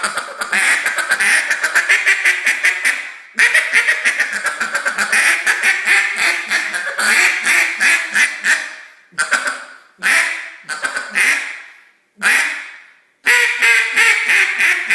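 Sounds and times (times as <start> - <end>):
duck call quacks: 0.0 - 14.9.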